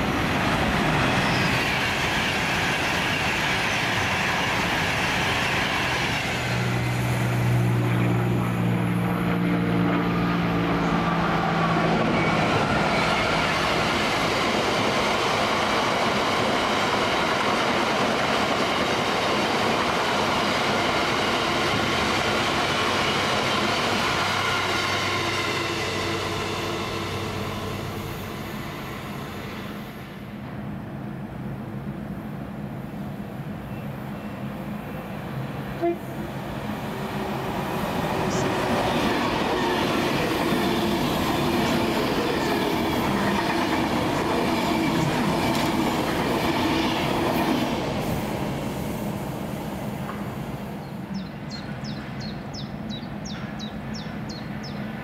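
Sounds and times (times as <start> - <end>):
train wheels rushing on rail: 0.0 - 55.0.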